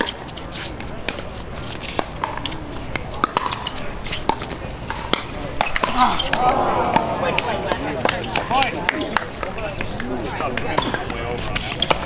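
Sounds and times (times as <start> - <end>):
faint voices: 0.3 - 12.0.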